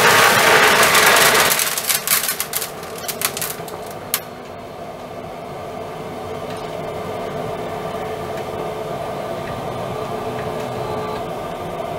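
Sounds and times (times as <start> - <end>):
motor whirring hum: 0.0 - 11.9.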